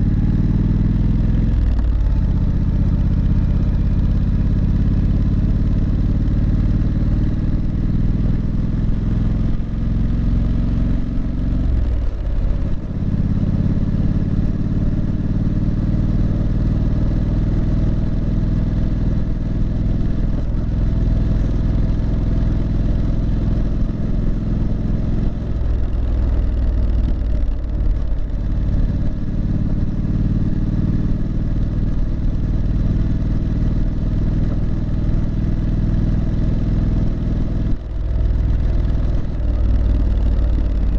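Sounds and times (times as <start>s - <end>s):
motorcycle exhaust note: 0.0s - 40.9s.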